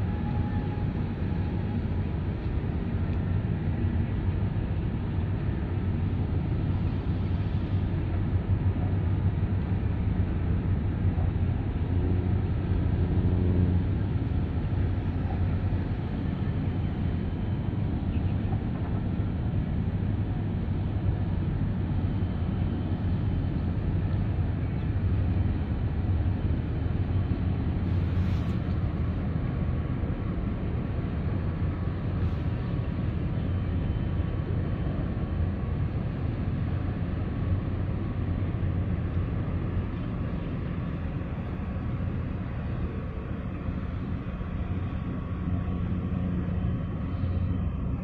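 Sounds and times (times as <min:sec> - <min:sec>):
ship engines rumbling: 0:00.0 - 0:48.0.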